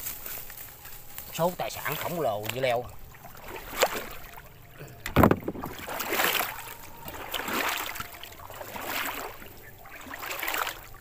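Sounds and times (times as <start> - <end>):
water sloshing around wading legs: 0.0 - 11.0.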